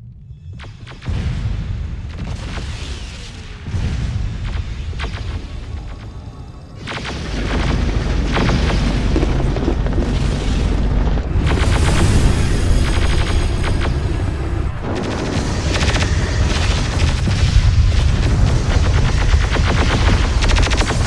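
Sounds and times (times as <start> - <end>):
deep rumble: 0.0 - 21.0
film score music: 0.0 - 21.0
booming explosions: 0.5 - 21.0.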